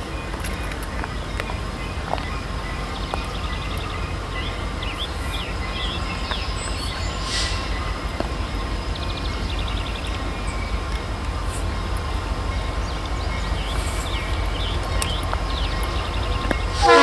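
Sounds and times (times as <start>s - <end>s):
birds chirping: 0.0s - 17.0s
low rumble: 0.0s - 17.0s.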